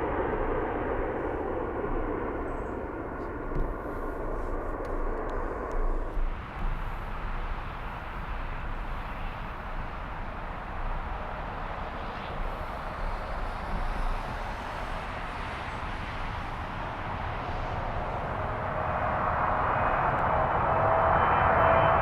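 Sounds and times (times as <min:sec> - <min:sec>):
distant jet engines rushing: 0:00.0 - 0:22.0
jet engine whine: 0:00.0 - 0:22.0.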